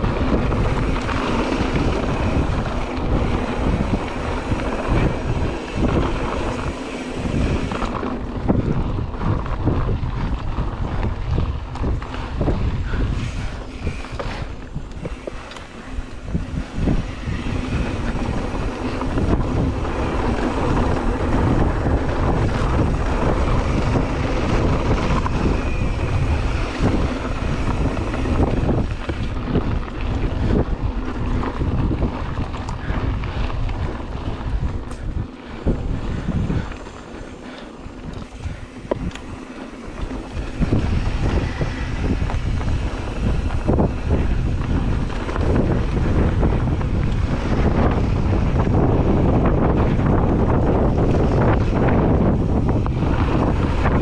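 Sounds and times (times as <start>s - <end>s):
bike frame and chain rattling: 0.0s - 54.0s
bike tyres crunching on dirt: 0.0s - 54.0s
wind rushing over microphone: 0.0s - 54.0s.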